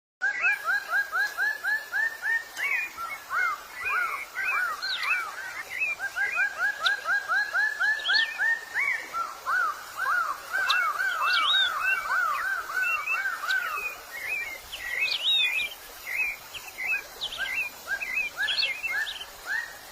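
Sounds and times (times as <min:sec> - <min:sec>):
high bird chirps: 0:02.3 - 0:19.3.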